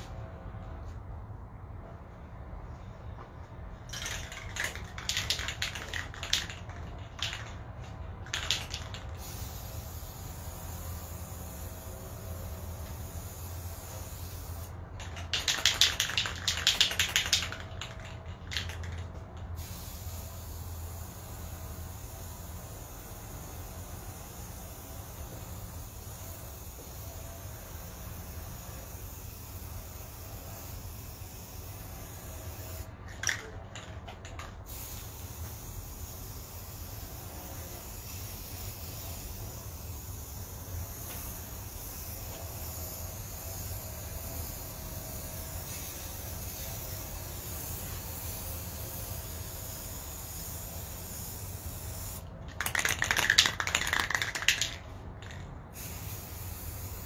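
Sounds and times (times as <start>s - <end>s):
spray paint can hissing: 3.8s - 57.0s.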